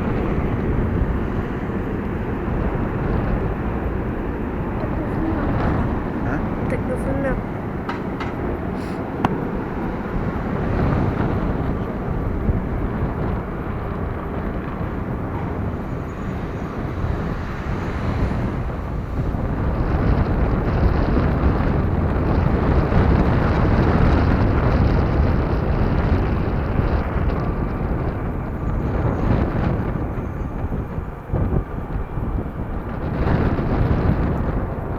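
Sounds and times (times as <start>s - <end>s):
jet airliner engines: 0.0s - 34.9s
wind buffeting microphone: 0.0s - 34.9s.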